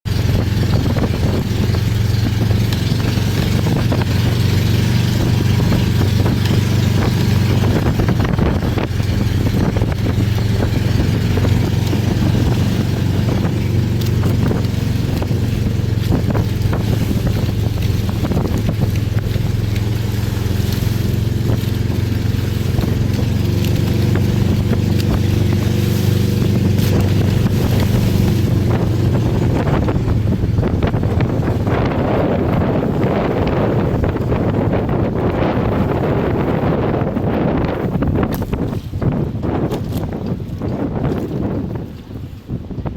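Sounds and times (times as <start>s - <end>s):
boat engine running: 0.0s - 42.9s
water noise: 0.0s - 42.9s
wind buffeting microphone: 0.0s - 42.9s.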